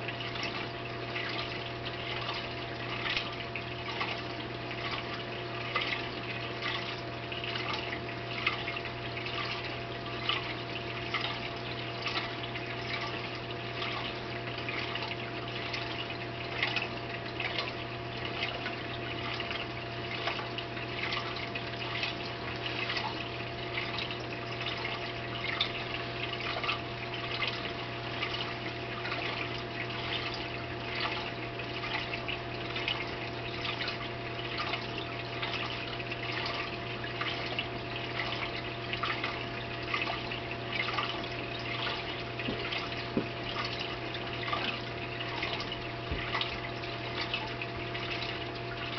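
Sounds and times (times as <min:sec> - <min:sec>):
aquarium pump hum: 0:00.0 - 0:48.9
water trickling and bubbling: 0:00.0 - 0:48.9.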